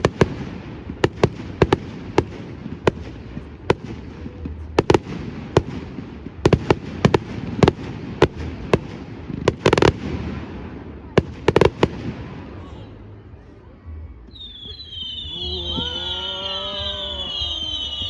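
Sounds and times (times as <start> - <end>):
fireworks bursting with sharp bangs: 0.0 - 13.0, 14.3 - 18.0.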